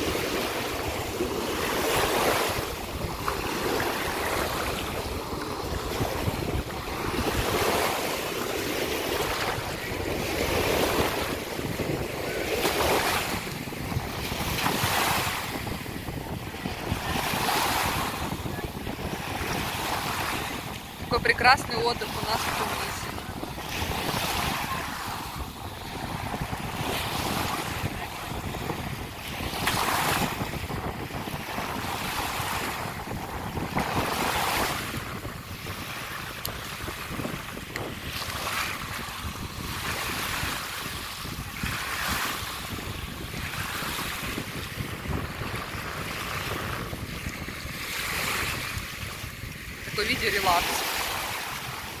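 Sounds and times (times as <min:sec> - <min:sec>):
small waves washing ashore: 0:00.0 - 0:52.0
wind on microphone: 0:00.0 - 0:52.0.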